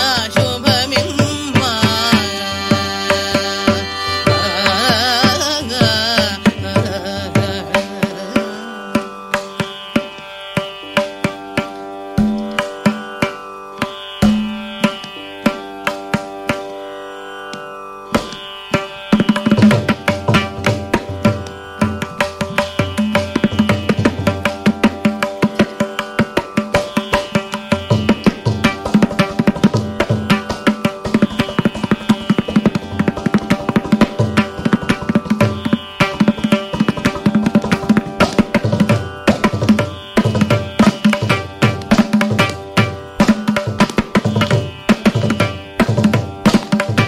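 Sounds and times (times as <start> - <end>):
mridangam drum strokes: 0.0 - 16.8, 17.4 - 47.0
tanpura drone: 0.0 - 47.0.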